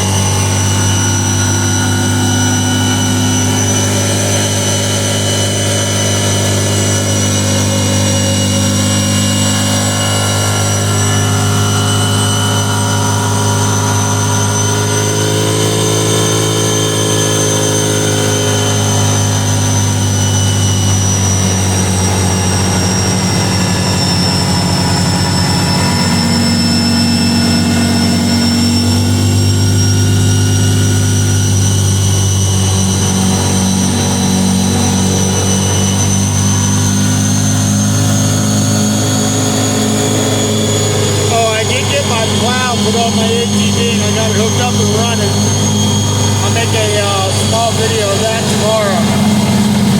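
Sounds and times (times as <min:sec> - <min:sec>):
engine hum: 0:00.0 - 0:49.9
high-pitched whine: 0:00.0 - 0:49.9.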